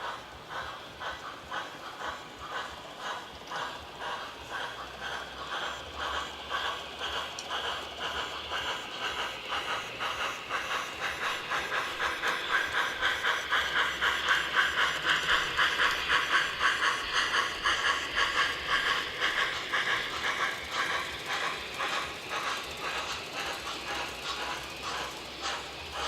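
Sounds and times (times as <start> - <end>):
model steam locomotive chuffing: 0.0 - 26.0
steam hiss: 0.0 - 26.0.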